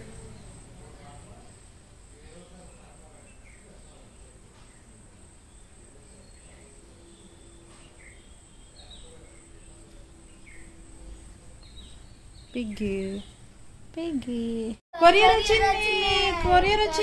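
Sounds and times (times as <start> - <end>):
crickets chirring: 0.0 - 13.6.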